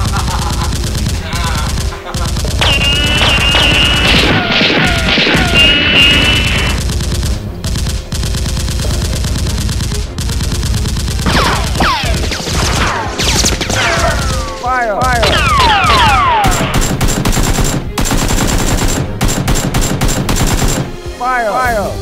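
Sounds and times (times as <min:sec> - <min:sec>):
rapid automatic gunfire: 0:00.0 - 0:14.5, 0:15.2 - 0:21.0.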